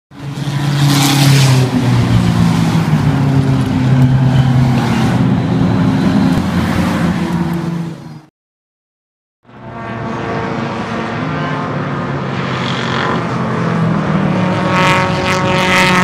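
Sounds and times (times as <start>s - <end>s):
race car engines: 0.1s - 8.3s, 9.5s - 16.0s.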